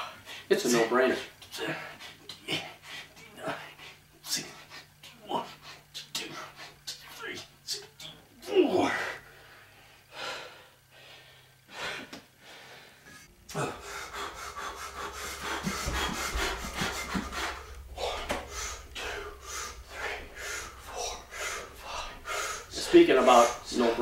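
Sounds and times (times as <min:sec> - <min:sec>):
man breathing hard: 0:00.0 - 0:00.6, 0:01.5 - 0:06.9, 0:08.8 - 0:24.0
low steady hum: 0:00.0 - 0:24.0.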